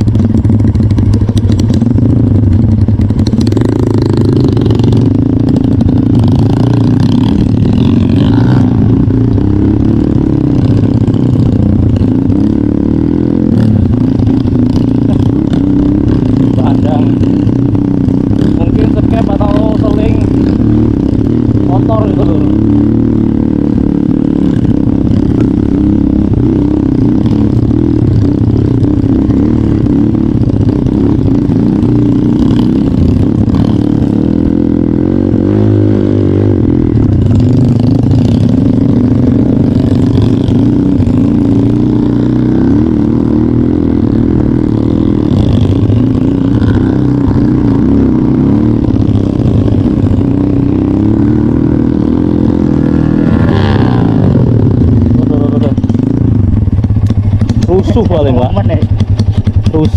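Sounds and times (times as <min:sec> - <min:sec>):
clatter: 0:00.0 - 0:12.8, 0:13.4 - 0:50.7, 0:52.3 - 0:59.9
motorcycle engine running: 0:00.0 - 0:59.9.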